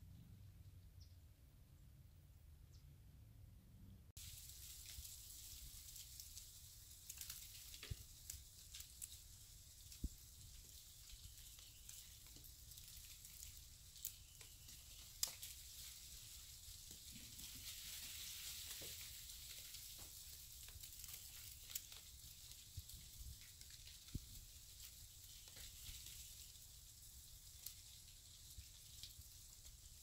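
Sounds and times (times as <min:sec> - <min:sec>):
faint steady hiss: 0:00.0 - 0:30.0.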